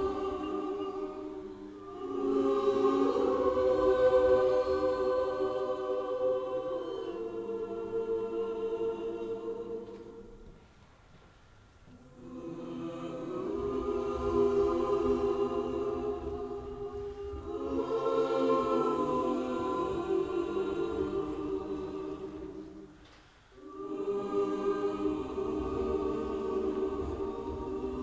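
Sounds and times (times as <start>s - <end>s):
choir singing sustained chords: 0.0s - 10.7s, 11.8s - 28.0s.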